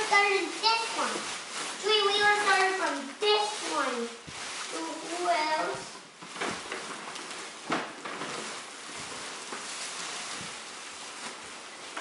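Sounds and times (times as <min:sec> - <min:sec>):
plastic trash bag rustling: 0:00.0 - 0:12.0.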